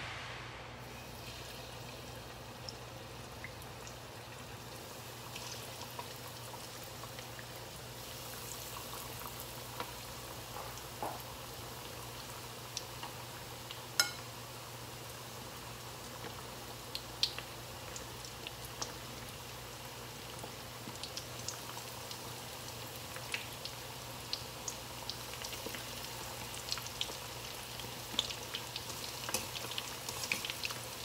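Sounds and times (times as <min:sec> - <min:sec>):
oil sizzling with pops: 0:00.8 - 0:31.0.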